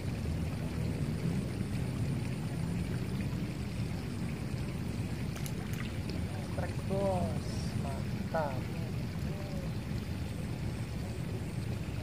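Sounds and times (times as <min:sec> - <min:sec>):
low rushing outdoor background noise: 0:00.0 - 0:12.0.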